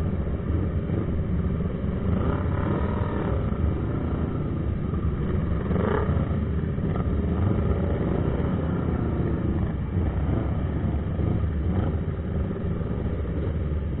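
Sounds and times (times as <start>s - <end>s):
motorcycle engines low rumble: 0.0s - 14.0s.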